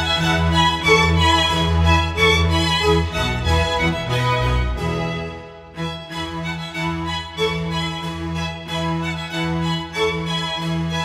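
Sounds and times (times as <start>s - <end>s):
slow bowed string melody: 0.0s - 11.0s.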